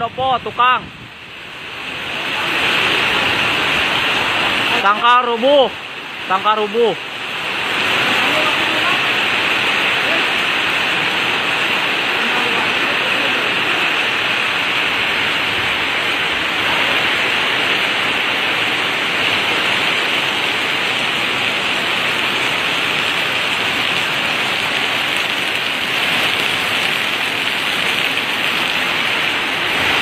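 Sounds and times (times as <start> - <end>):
torrential rain hissing: 0.0 - 30.0.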